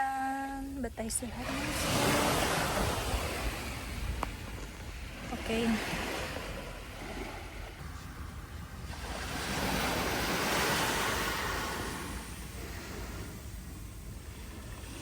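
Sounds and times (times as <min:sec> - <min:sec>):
wind rumbling on microphone: 0:00.6 - 0:15.0
sea surf washing onto shore: 0:01.3 - 0:15.0.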